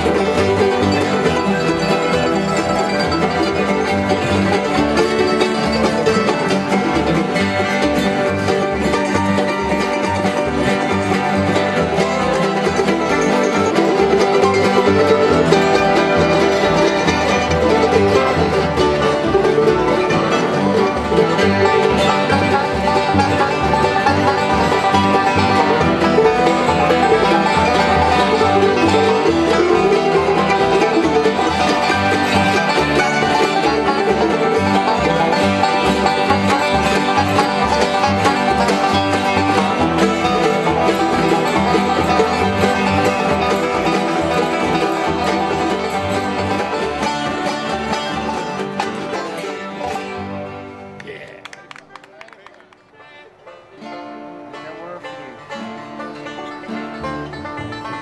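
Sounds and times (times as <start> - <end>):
banjos and acoustic guitars: 0.0 - 58.0.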